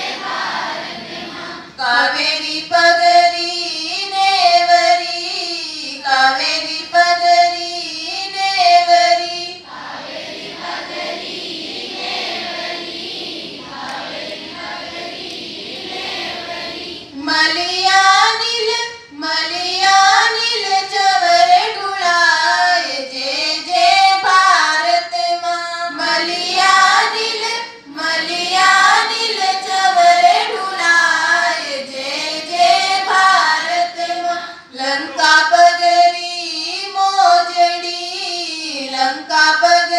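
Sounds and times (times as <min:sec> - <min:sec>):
children singing in unison: 0:00.0 - 0:39.9.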